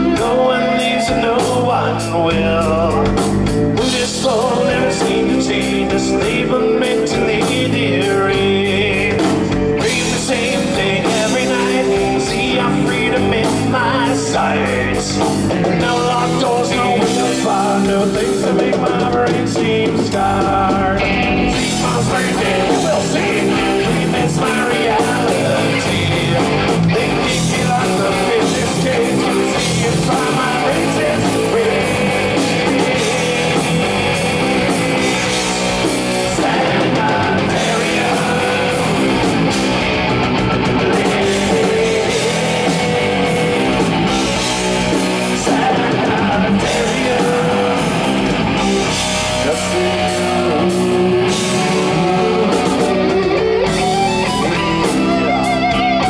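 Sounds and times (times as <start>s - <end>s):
heavy metal band playing: 0.0s - 56.0s.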